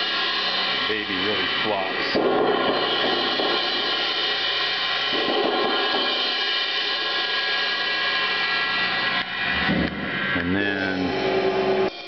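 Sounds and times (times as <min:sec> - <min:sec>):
cymbal roll: 0:00.0 - 0:12.0.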